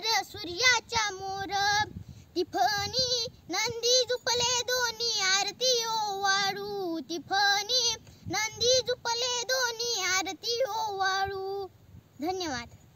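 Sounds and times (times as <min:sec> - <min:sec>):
girl singing: 0:00.0 - 0:12.8.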